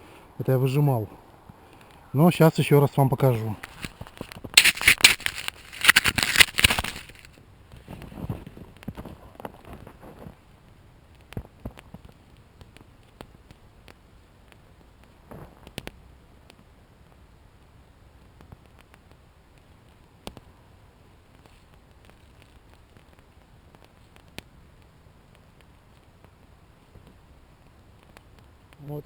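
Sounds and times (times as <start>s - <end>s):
campfire crackling: 0.0s - 7.5s, 8.6s - 29.0s.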